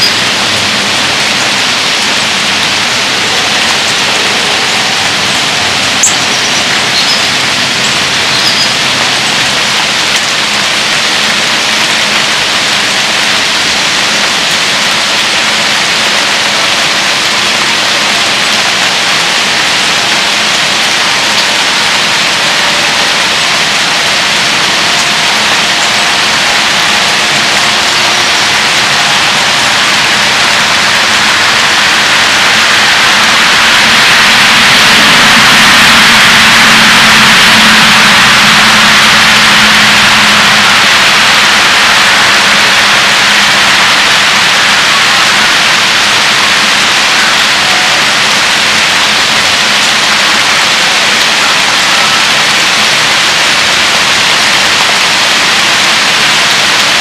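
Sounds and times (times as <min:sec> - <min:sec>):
pouring rain: 0:00.0 - 0:57.0.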